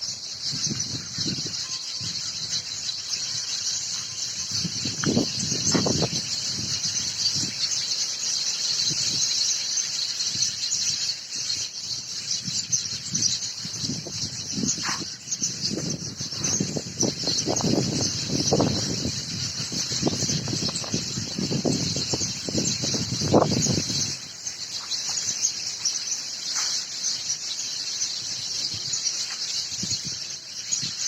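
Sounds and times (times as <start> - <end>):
birds chirping chorus: 0.0 - 31.0.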